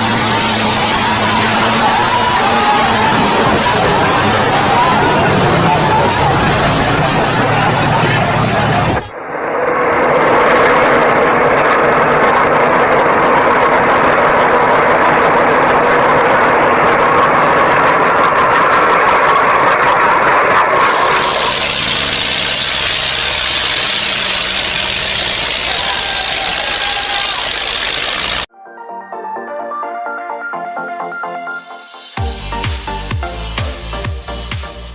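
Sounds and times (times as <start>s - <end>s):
tractor engine running: 0.0s - 28.5s.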